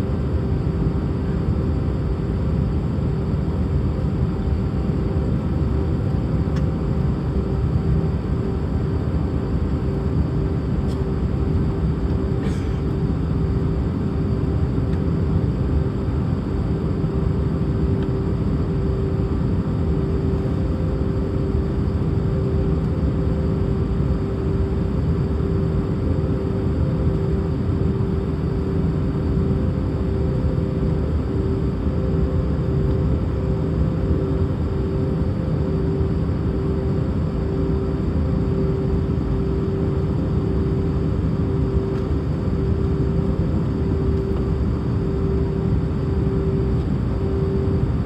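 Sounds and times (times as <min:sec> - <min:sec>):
steady hum: 0:00.0 - 0:48.0.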